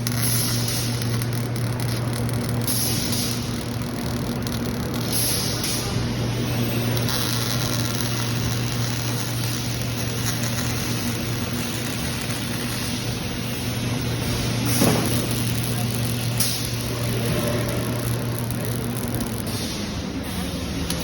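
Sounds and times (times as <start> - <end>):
arc welding hiss: 0.0 - 21.0
low electrical hum: 0.0 - 21.0.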